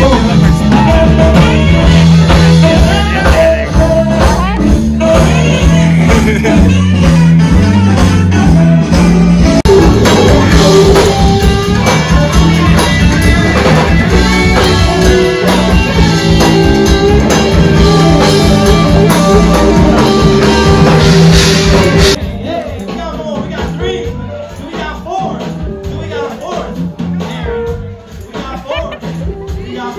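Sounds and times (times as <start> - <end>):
drum kit: 0.0 - 29.9
guitar: 0.0 - 29.9
person singing: 0.0 - 29.9.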